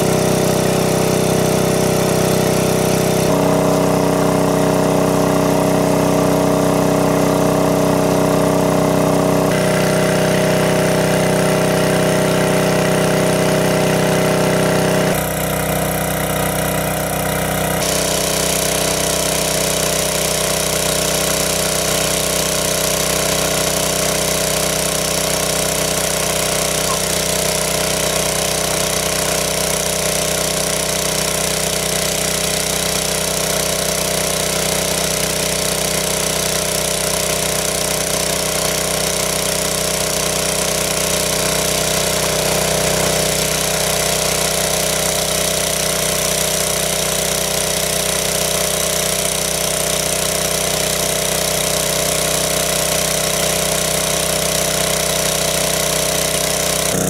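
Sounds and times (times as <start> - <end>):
water jet discharging: 0.0 - 57.0
water pump engine running: 0.0 - 57.0.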